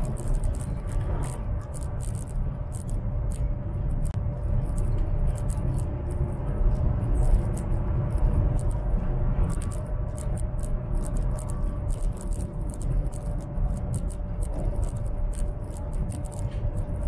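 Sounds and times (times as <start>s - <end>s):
train cabin rumble and hum: 0.0s - 17.0s.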